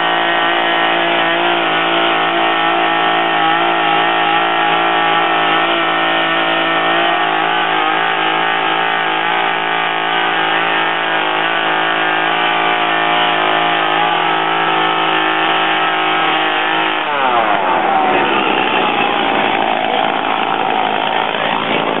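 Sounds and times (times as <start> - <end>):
chainsaw running: 0.0 - 22.0.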